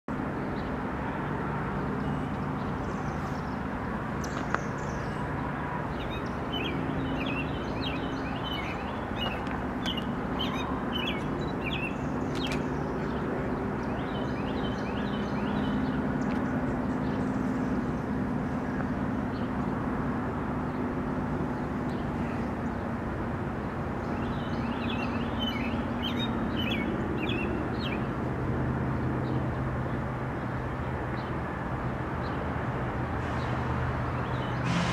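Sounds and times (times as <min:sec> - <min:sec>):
birds chirping: 0:00.1 - 0:28.3
diesel locomotives droning: 0:00.1 - 0:34.9.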